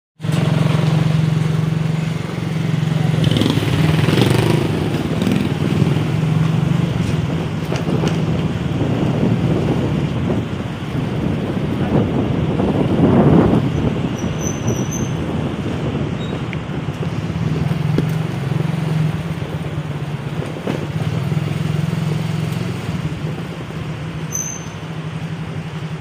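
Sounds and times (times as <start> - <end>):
motorcycle engine running: 0.2 - 26.0.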